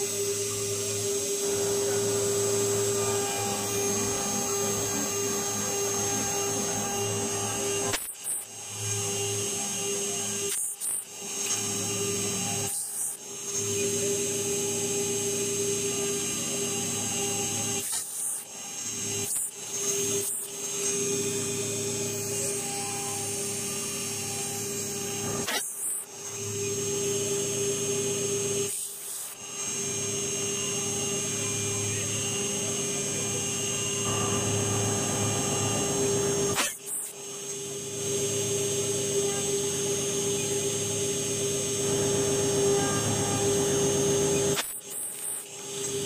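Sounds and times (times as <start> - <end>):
router spindle high whine: 0.0 - 46.0.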